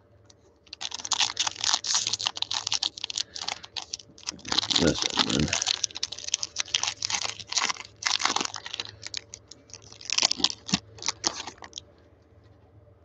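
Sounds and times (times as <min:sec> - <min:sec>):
foil wrapper crinkling: 0:00.7 - 0:11.8.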